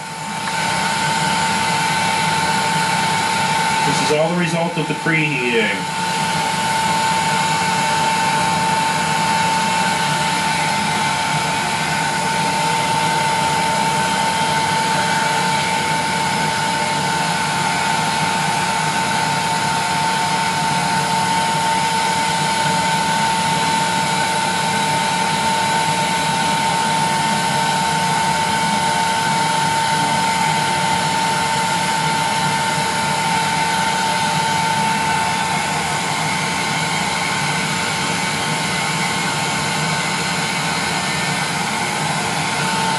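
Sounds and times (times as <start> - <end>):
heat gun blowing with whine: 0.0 - 42.9.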